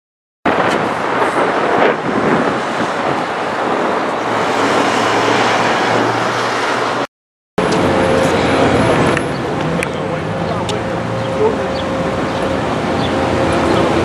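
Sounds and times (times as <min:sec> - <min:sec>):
wind on microphone: 0:00.5 - 0:07.0, 0:07.6 - 0:14.0
traffic: 0:00.5 - 0:14.0.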